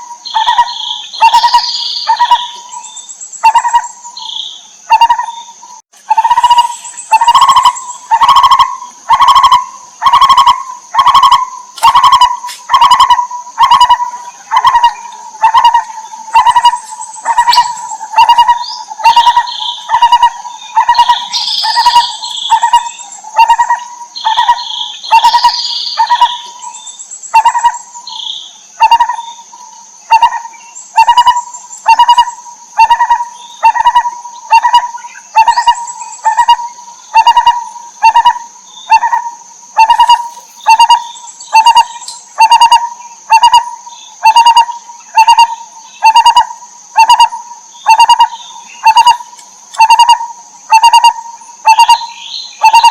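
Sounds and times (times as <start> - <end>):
bird calling low notes: 0.0 - 26.8, 30.1 - 52.9
higher bird chirps: 0.0 - 39.2, 39.8 - 52.9
high-pitched insect drone: 0.0 - 52.9.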